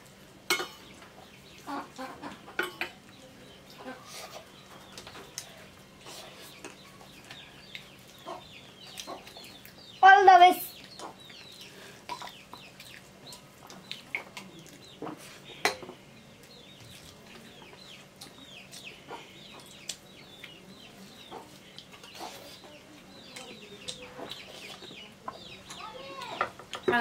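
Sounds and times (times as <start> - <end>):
chickens chirping: 0.8 - 27.0.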